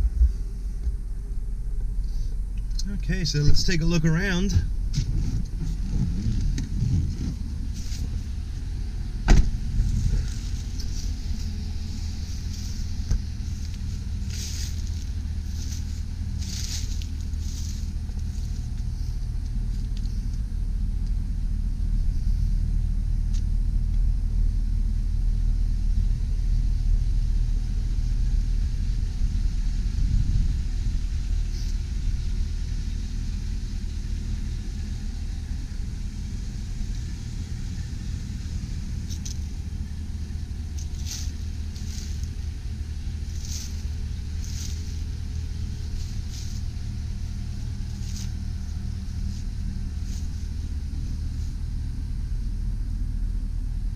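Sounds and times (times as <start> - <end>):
truck engine idling: 0.0 - 53.9.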